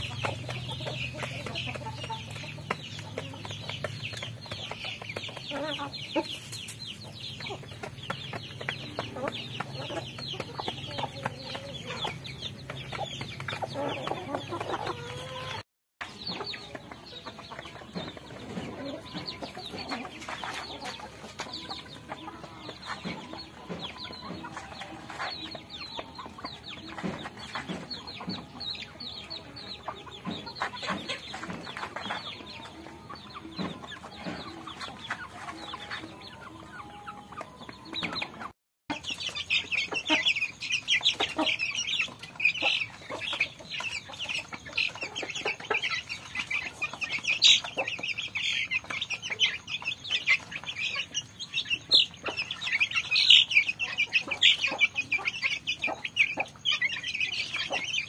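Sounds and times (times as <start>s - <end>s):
chickens clucking: 0.0s - 58.0s
chicks peeping: 0.0s - 58.0s.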